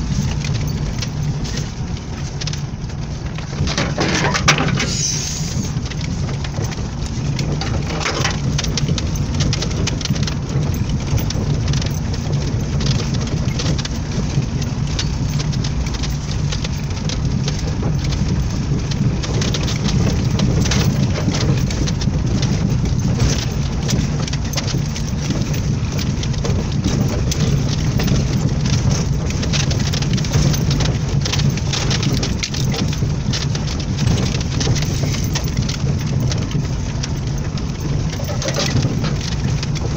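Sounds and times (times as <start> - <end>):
low engine drone: 0.0 - 39.9.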